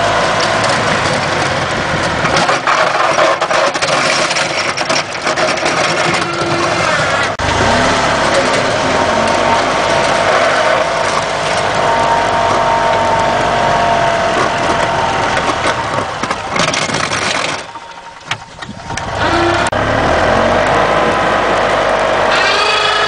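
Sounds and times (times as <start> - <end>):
golf cart engine running under load: 0.0 - 23.0.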